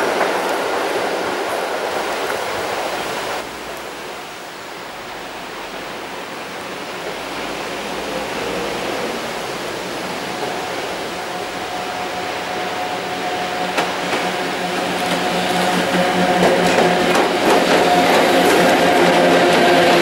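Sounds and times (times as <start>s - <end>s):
approaching freight train rushing: 0.0s - 20.0s
passing train rushing: 0.0s - 20.0s.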